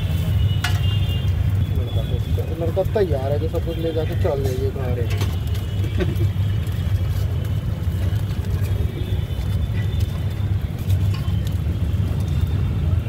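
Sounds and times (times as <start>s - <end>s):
street background rumble: 0.0s - 13.0s.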